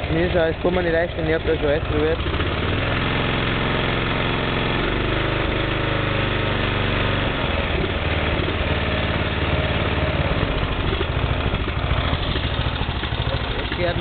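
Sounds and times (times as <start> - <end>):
single-cylinder engine running rough: 0.0 - 14.0.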